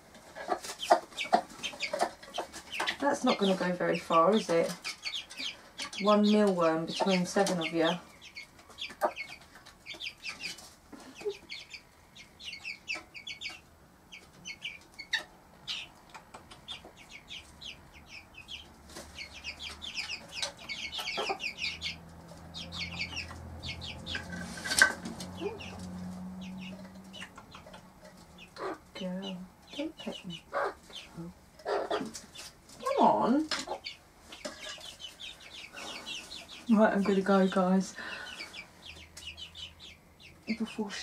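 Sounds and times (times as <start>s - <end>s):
chicks peeping: 0.0s - 41.0s
hen clucking: 0.0s - 41.0s.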